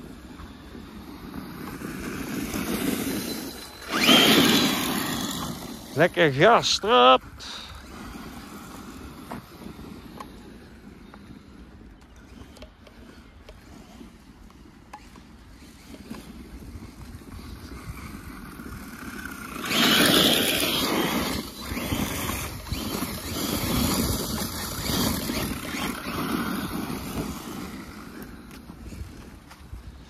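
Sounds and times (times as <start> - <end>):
off-road vehicle driving on dirt: 0.0 - 6.2, 7.5 - 30.0.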